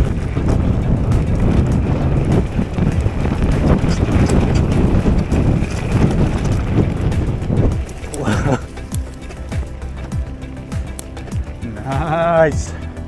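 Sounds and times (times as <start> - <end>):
bike knocks and rattles: 0.0 - 11.6
tyre rumble: 0.0 - 11.7
wind buffeting microphone: 0.0 - 13.0.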